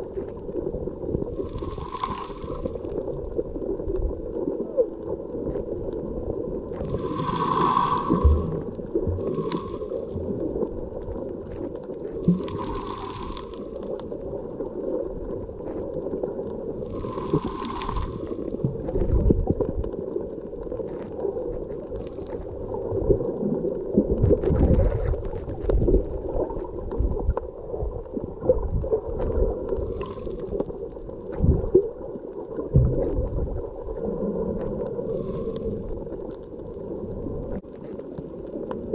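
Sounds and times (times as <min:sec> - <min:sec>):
underwater low hum: 0:00.0 - 0:38.9
water sloshing and gurgling: 0:00.0 - 0:38.9.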